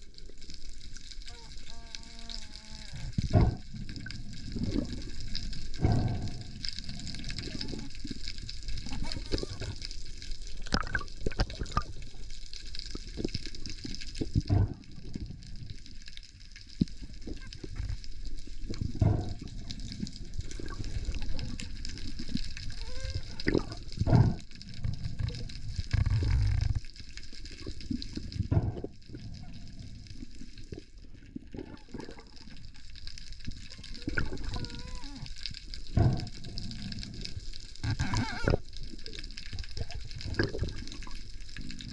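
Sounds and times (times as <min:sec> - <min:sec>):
water sloshing and bubbling: 0:00.0 - 0:41.9.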